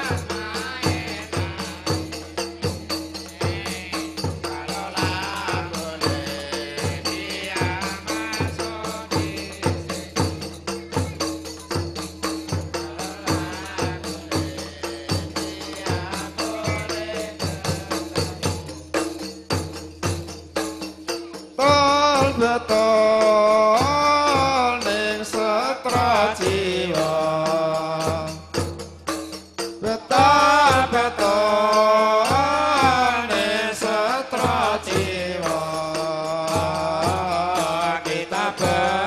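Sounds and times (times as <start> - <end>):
person singing: 0.0 - 11.2, 12.7 - 18.6, 21.5 - 28.5, 29.8 - 39.0
loud chanted singing: 0.0 - 19.0, 21.3 - 28.7, 29.8 - 39.0
frame drums beating: 0.0 - 39.0.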